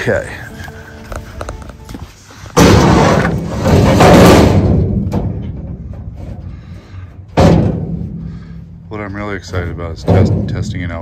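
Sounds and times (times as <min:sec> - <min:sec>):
metal scraping and rattling: 0:00.1 - 0:11.0.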